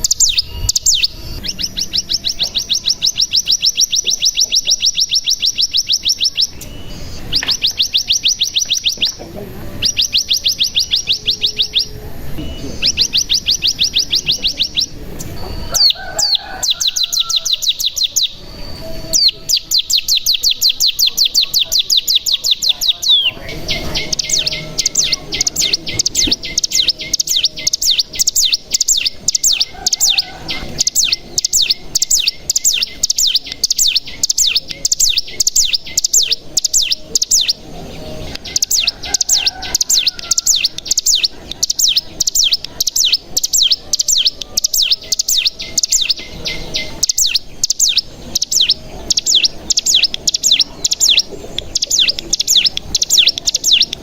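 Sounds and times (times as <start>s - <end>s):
bird singing rapid trills: 0.0s - 54.0s.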